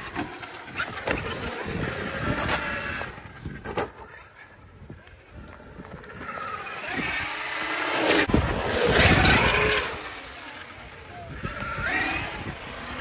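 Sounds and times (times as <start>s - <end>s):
rc truck motor whine: 0.0s - 13.0s
tyres on concrete: 0.0s - 13.0s.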